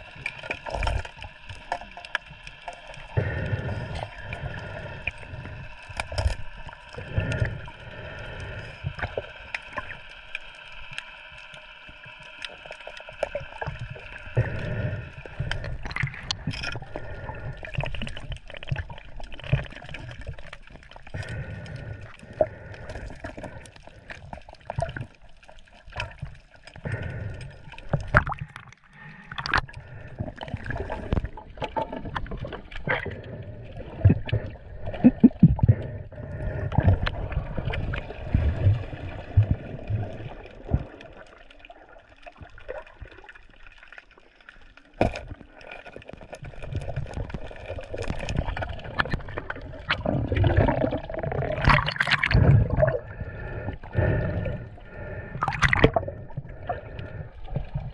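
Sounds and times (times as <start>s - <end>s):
water splashing and gurgling: 0.0s - 57.9s.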